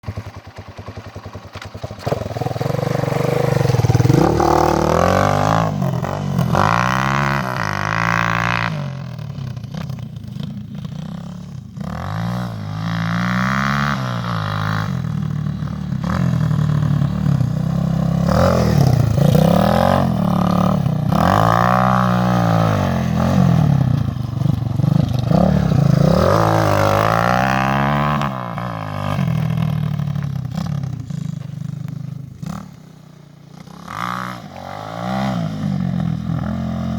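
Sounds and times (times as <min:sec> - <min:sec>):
dirt bike engine revving: 0:01.8 - 0:31.5, 0:32.2 - 0:36.9.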